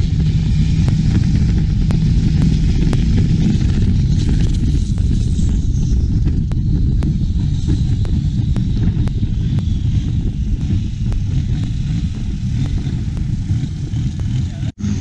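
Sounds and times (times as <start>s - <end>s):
boat engine droning: 0.0s - 15.0s
rushing wind: 0.0s - 15.0s.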